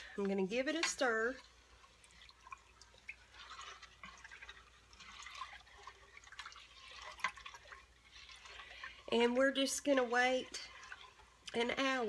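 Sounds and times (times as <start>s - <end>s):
liquid sloshing in pot: 0.0s - 12.0s.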